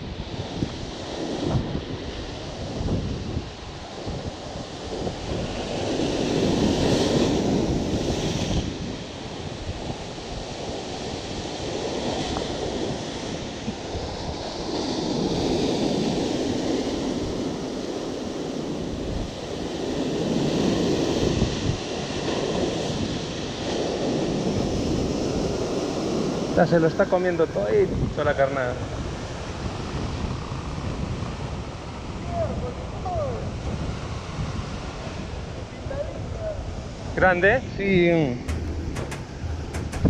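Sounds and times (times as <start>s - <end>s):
sea surf breaking against rocks: 0.0s - 37.2s, 38.3s - 40.0s.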